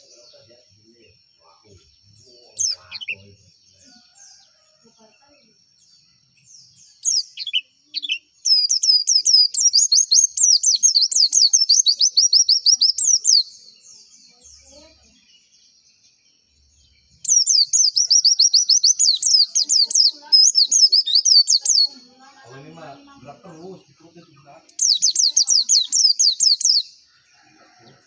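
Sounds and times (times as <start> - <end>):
bird chattering song: 0.0 - 28.0.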